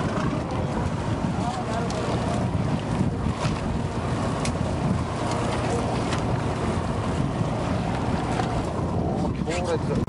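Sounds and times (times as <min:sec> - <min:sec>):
boat engine running: 0:00.0 - 0:10.0
sea washing along hull: 0:00.0 - 0:10.0
wind buffeting microphone: 0:00.0 - 0:10.0.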